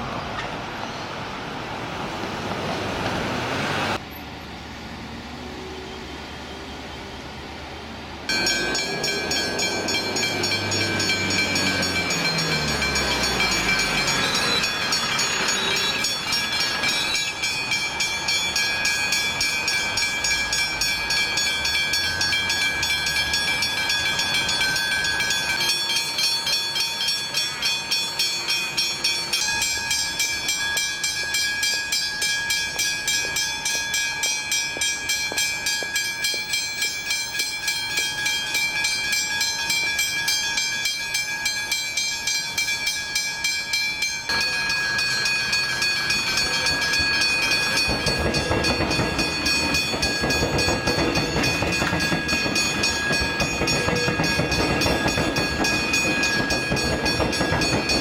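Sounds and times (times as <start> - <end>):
level crossing warning bells ringing: 8.3 - 58.0.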